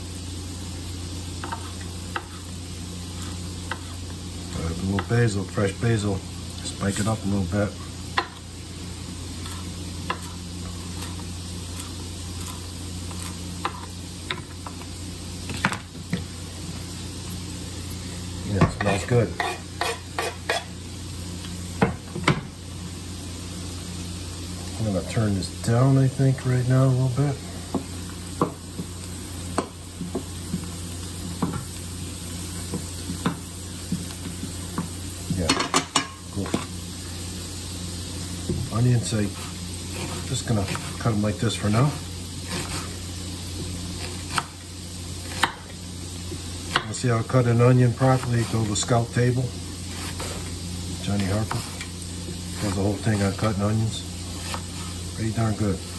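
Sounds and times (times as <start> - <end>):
vegetables sizzling in frying pan: 0.0 - 55.9.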